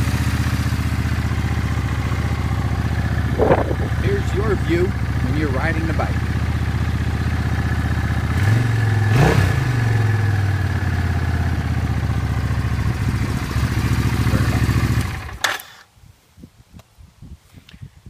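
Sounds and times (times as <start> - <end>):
motorcycle engine idling: 0.0 - 15.8.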